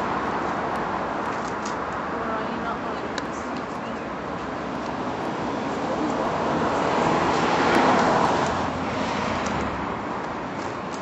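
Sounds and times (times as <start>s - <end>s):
steady traffic noise: 0.0s - 11.0s
vehicle passing: 0.0s - 11.0s.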